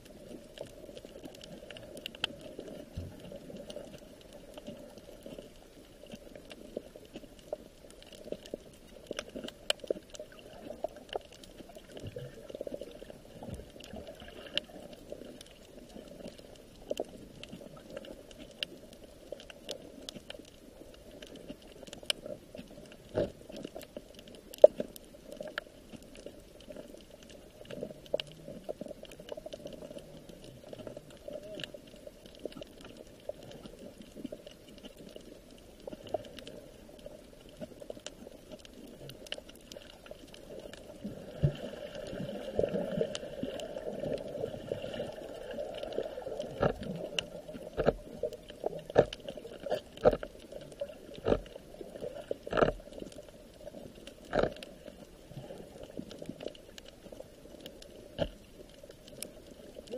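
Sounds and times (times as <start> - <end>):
bubbling sloshing water: 0.0 - 59.9
small clicks and ticks: 0.0 - 59.9.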